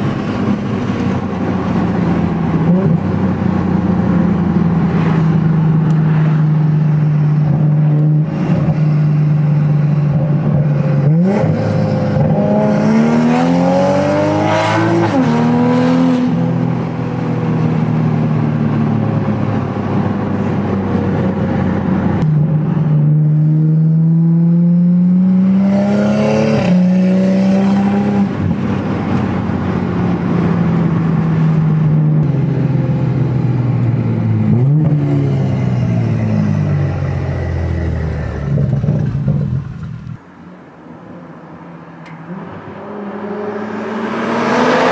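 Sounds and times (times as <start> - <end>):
car engine accelerating: 0.0 - 40.2, 41.0 - 44.9.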